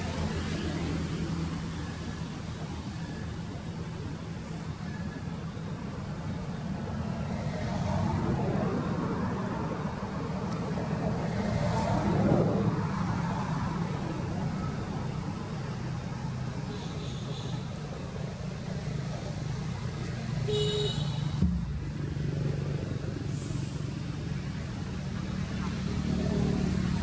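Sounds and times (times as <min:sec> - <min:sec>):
traffic drone: 0:00.0 - 0:27.0.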